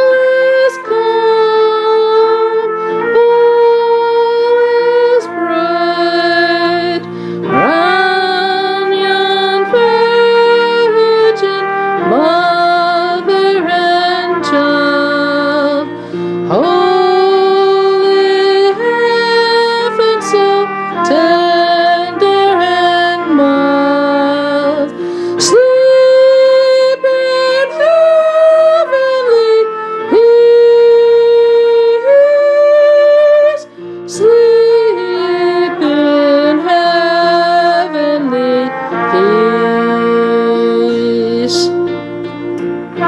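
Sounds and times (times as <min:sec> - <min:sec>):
woman singing a carol: 0:00.0 - 0:42.0
instrumental accompaniment: 0:00.0 - 0:43.0.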